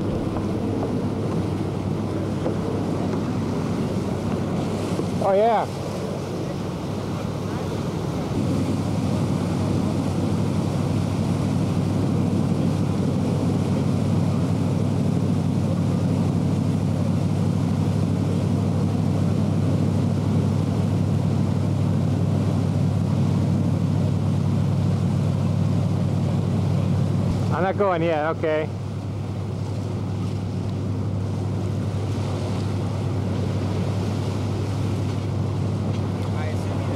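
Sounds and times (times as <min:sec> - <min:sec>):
boat engine droning: 0:00.0 - 0:36.9
water noise: 0:00.0 - 0:36.9
wind: 0:00.0 - 0:36.9.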